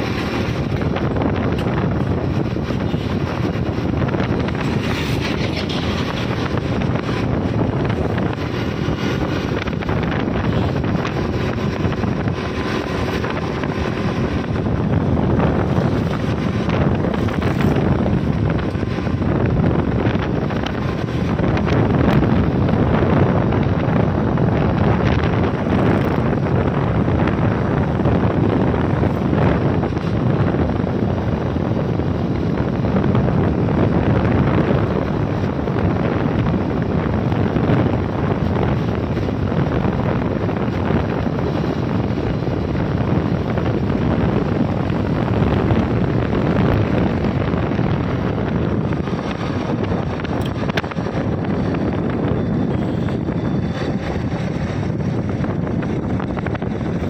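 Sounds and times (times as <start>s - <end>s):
motorcycle engine running: 0.0s - 57.0s
wind roaring on microphone: 0.0s - 57.0s.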